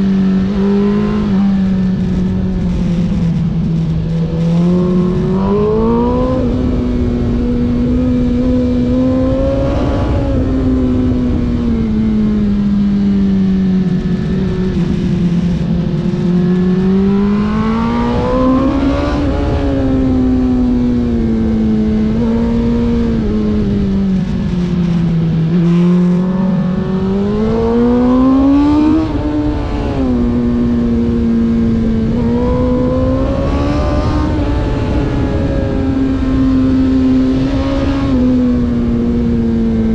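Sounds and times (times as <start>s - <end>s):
racing engine accelerating: 0.0s - 39.9s.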